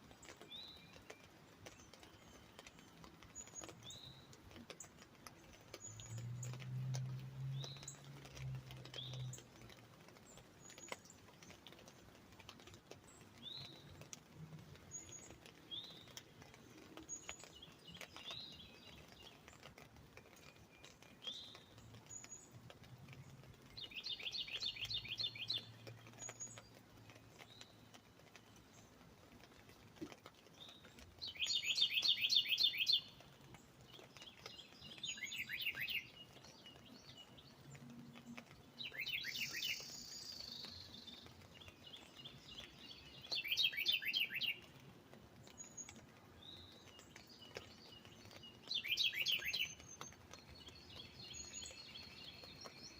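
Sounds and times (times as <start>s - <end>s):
raindrops on an umbrella: 0.0s - 52.9s.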